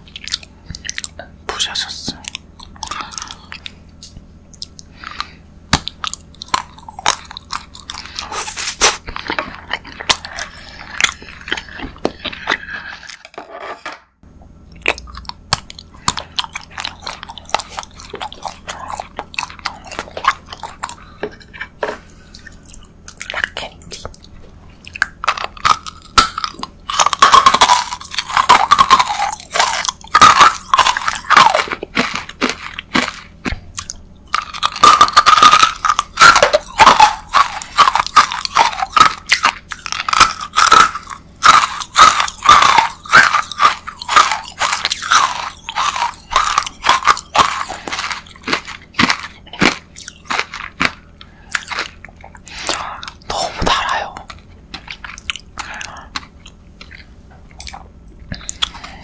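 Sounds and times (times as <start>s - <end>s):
rock candy crunching: 0.1s - 13.6s, 14.7s - 59.0s.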